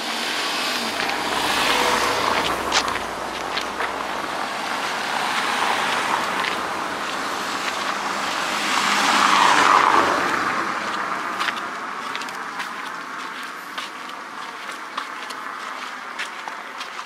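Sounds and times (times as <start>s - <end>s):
car passing by: 0.0s - 16.2s.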